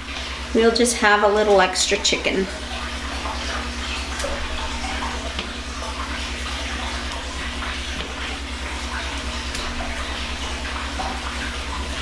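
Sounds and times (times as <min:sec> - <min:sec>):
kitchen background hiss: 0:00.0 - 0:12.0
low pulsing hum: 0:00.0 - 0:12.0.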